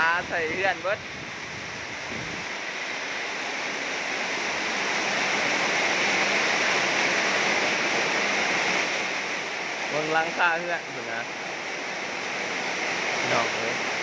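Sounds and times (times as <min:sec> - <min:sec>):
heavy rain pouring: 0:00.0 - 0:14.0
strong wind: 0:00.0 - 0:14.0.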